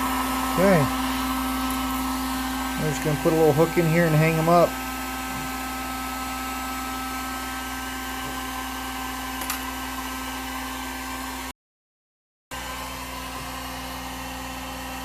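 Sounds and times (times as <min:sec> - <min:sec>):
electric blower motor whirring: 0:00.0 - 0:11.5, 0:12.5 - 0:15.0.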